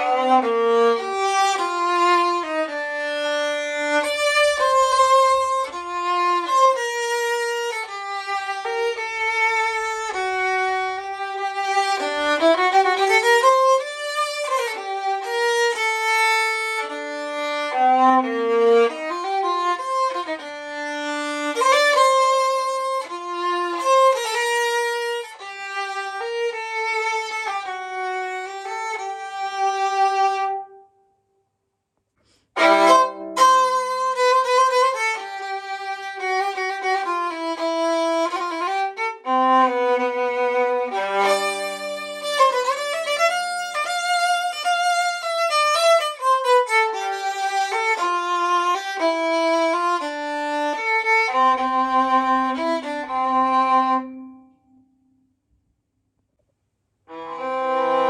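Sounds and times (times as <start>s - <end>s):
viola played with bow: 0.0s - 31.1s, 32.3s - 55.1s, 57.0s - 58.0s.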